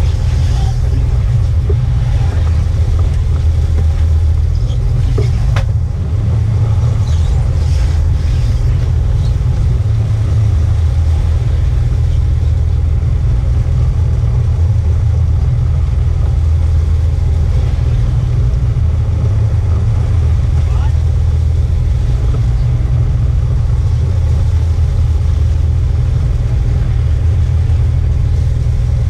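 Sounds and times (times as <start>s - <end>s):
boat engine rumbling: 0.0s - 29.0s.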